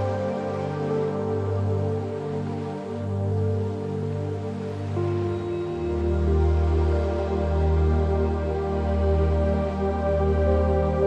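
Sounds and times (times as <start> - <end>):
deep steady drone: 0.0 - 11.0
synthesizer pads: 0.0 - 11.0.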